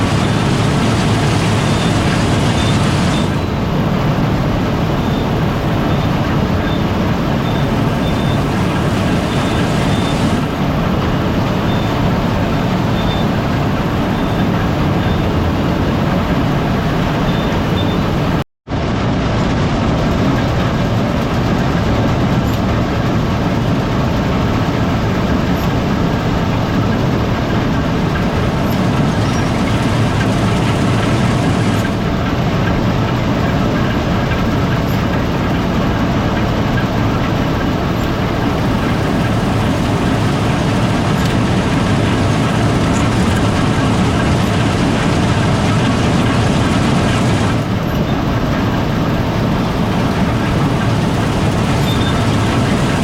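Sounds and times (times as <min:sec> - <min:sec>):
combine harvester droning: 0:00.0 - 0:53.0.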